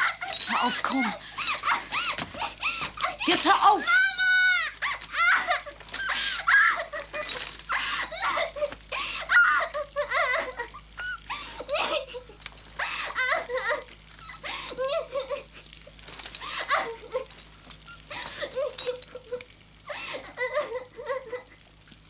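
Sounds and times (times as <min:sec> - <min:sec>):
girl sobbing and wailing: 0:00.0 - 0:17.4, 0:18.0 - 0:21.6.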